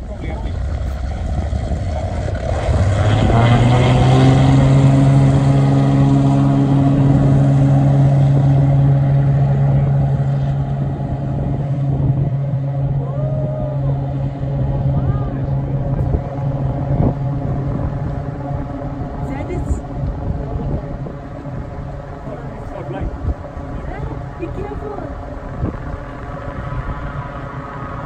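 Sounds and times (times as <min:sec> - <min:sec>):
floatplane engine and propeller drone: 0:00.0 - 0:28.0.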